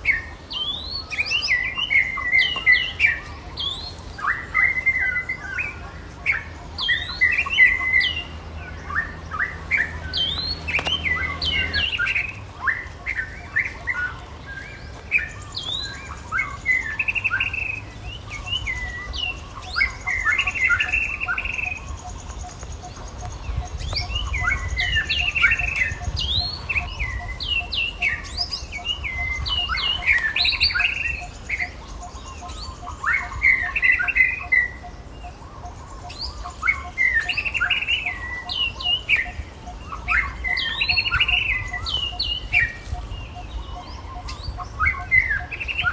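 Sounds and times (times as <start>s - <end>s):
high chirping and squeaking calls: 0.0s - 45.9s.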